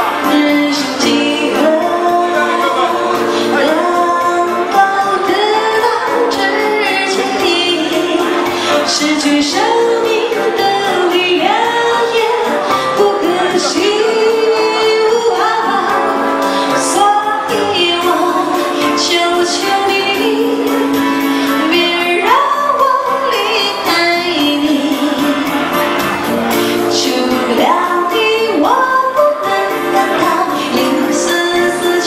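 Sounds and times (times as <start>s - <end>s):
instrumental accompaniment: 0.0s - 32.0s
woman singing into microphone: 0.0s - 32.0s.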